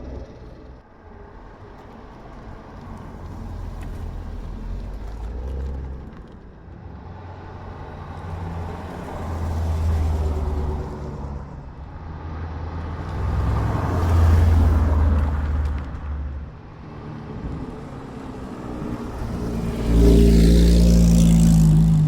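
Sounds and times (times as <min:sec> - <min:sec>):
cars driving past rumbling: 0:00.0 - 0:22.0.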